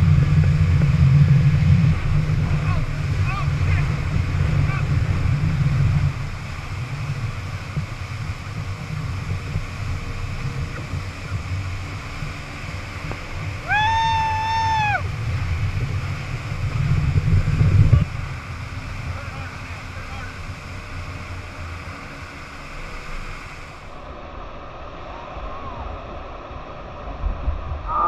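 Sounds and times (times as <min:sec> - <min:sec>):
motorboat running at speed: 0:00.0 - 0:28.0
water rushing and churning: 0:00.0 - 0:28.0.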